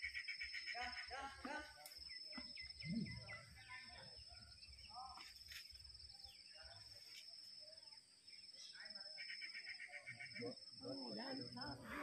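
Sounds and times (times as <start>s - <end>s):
bird chirping: 0.0s - 12.0s
high insect drone: 0.0s - 12.0s.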